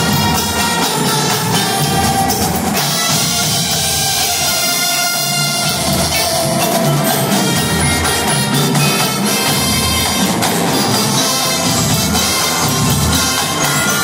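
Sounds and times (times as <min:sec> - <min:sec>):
brass chords: 0:00.0 - 0:14.0
drumline: 0:00.0 - 0:14.0
marimbas and mallet percussion: 0:00.0 - 0:14.0.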